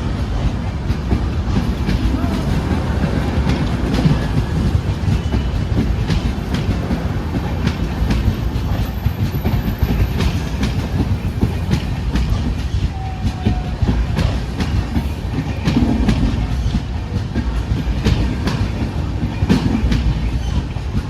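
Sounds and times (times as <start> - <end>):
train rumbling along track: 0.0 - 21.0
wheels clicking over rail joints: 0.0 - 21.0.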